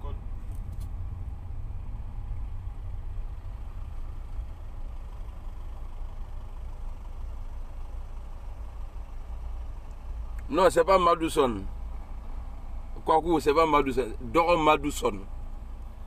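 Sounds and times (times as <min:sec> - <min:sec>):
car engine rumble inside cabin: 0:00.0 - 0:16.0.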